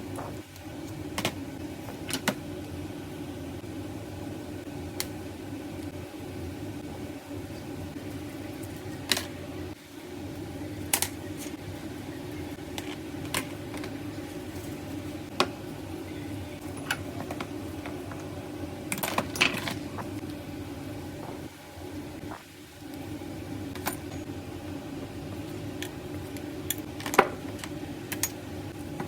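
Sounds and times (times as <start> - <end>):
fan-like hum: 0.0 - 29.0.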